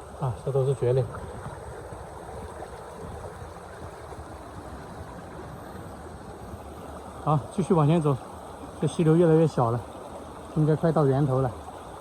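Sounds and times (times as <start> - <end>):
mountain stream flowing: 0.0 - 12.0.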